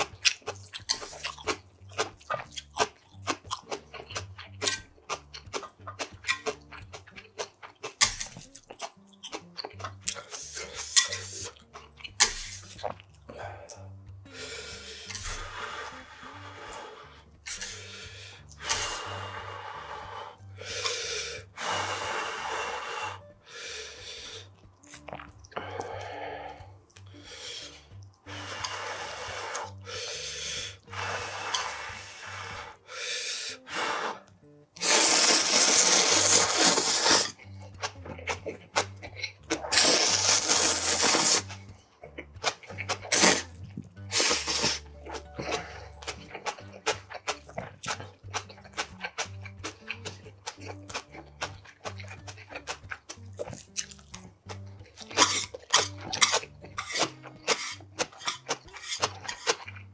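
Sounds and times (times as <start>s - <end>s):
chewing mouth noises: 0.0s - 19.0s, 24.0s - 28.8s, 34.2s - 59.9s
person slurping noodles: 9.8s - 59.9s.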